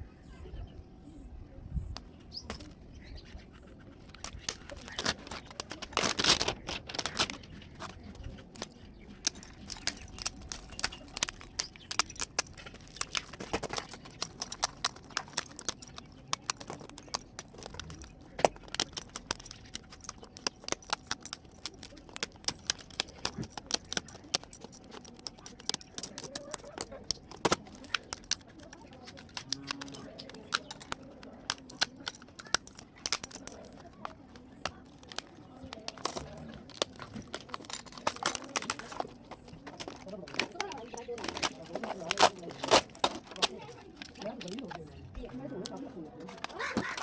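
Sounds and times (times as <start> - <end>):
plastic and metal parts clicking: 3.9 - 47.0.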